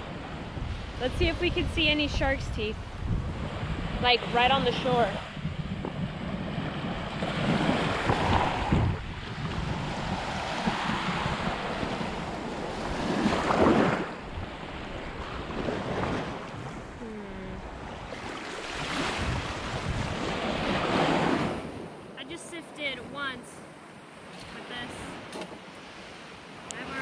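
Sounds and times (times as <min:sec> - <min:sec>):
wind buffeting microphone: 0:00.0 - 0:22.1
surf washing over sand: 0:00.0 - 0:23.1, 0:24.2 - 0:27.0.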